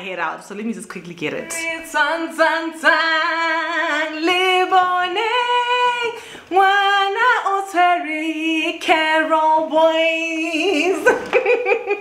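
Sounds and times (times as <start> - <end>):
woman singing unaccompanied: 1.2 - 11.7.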